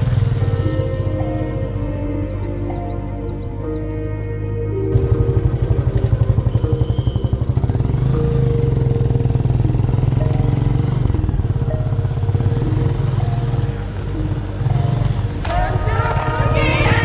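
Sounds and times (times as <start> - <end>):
motorcycle engine running: 0.0 - 3.9, 4.8 - 17.0
held music tones: 0.0 - 17.0.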